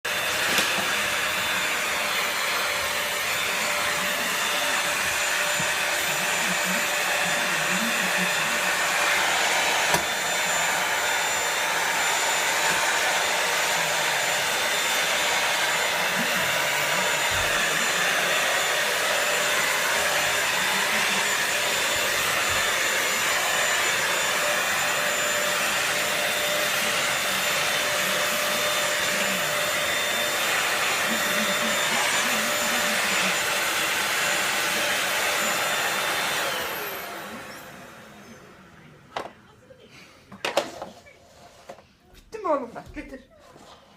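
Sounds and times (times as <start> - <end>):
vacuum cleaner running: 0.0 - 39.5, 40.4 - 43.9.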